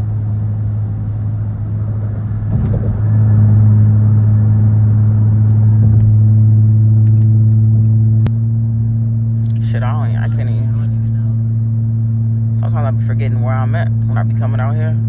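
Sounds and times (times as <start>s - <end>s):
car engine drone inside cabin: 0.0s - 15.0s.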